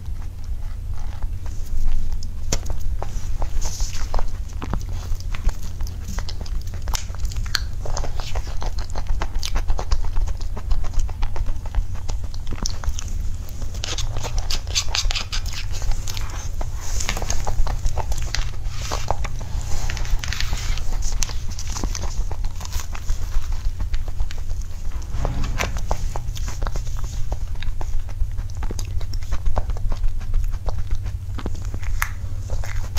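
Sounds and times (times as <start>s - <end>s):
chewing and mouth sounds: 0.0s - 25.0s, 27.6s - 32.9s
steady low hum: 0.0s - 32.9s.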